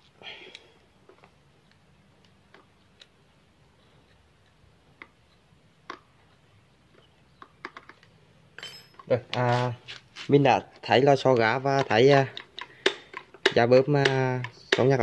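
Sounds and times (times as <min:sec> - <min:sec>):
faint clicks of metal parts: 0:00.0 - 0:03.2, 0:03.8 - 0:10.1, 0:10.7 - 0:15.0.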